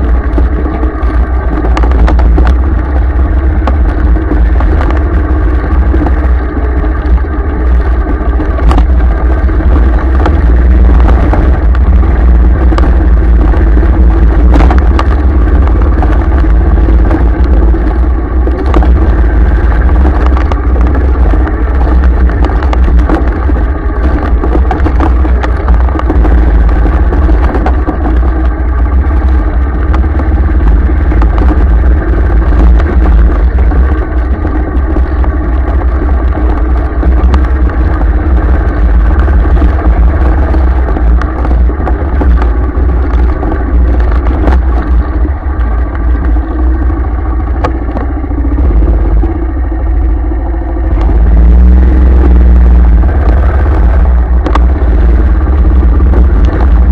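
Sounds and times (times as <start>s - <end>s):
vehicle engine running: 0.0s - 56.9s
wind and road noise rumble: 0.0s - 56.9s.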